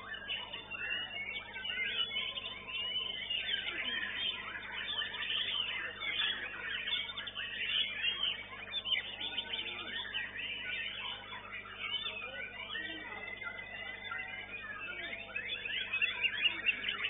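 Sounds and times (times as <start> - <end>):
many birds singing: 0.0 - 17.0.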